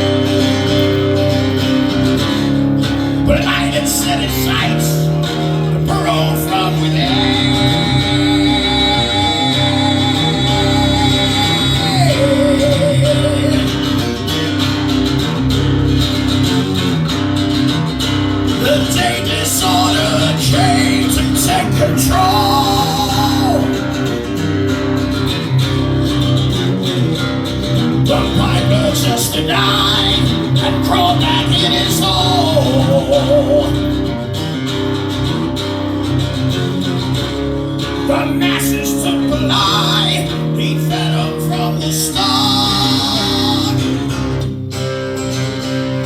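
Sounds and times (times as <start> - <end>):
amplified guitar: 0.0 - 46.0
dense band backing: 0.0 - 46.0.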